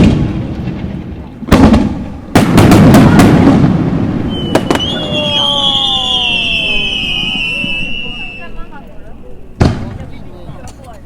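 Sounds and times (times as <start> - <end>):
sharp crack: 0.0 - 7.9, 9.6 - 11.0
firework shells booming: 0.0 - 8.1, 9.5 - 10.7
firework crackling: 0.0 - 11.0.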